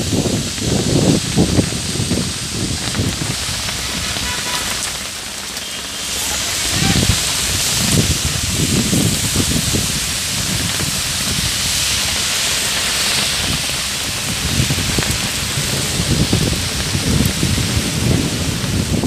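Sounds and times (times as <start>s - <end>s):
heavy rain on wet road: 0.0s - 19.0s
low rumbling: 0.0s - 19.0s.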